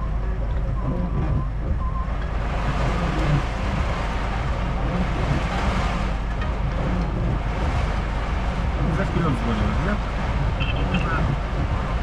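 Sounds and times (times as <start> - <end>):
heavy rain on windshield and roof: 0.0 - 12.0
truck engine running low: 0.0 - 12.0.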